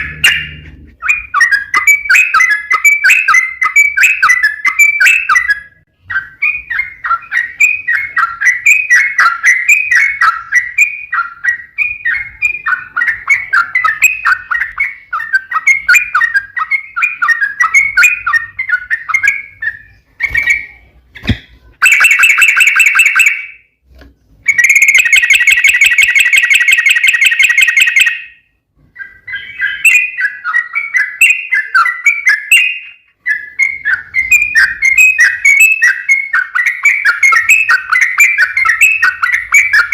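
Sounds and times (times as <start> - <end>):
buzzy bird trills: 0.0 - 23.4, 29.0 - 39.9
bird song chattering phrases: 0.0 - 23.7, 24.5 - 39.9.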